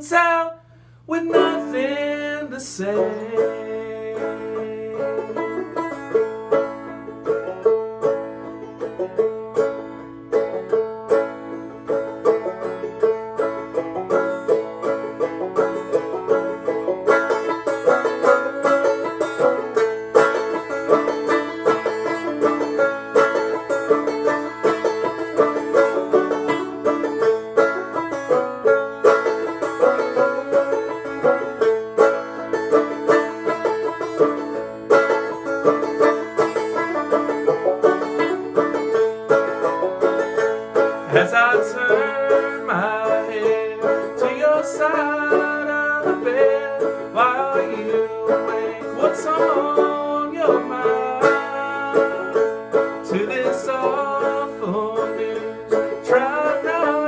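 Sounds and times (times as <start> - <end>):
banjo playing: 1.1 - 57.0.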